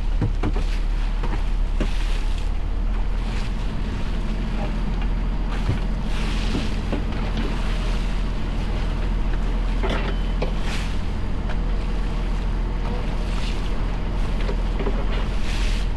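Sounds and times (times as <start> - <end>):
boat engine humming: 0.0 - 15.9
water noise: 0.0 - 15.9
wind: 0.0 - 15.9.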